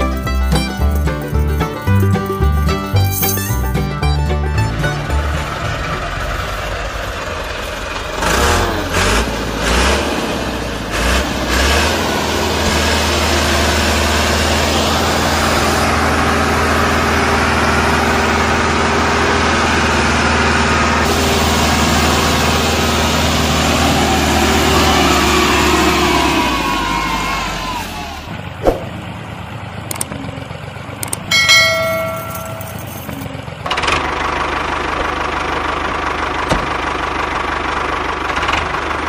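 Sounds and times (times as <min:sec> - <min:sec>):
tractor engine revving: 0:00.0 - 0:39.0.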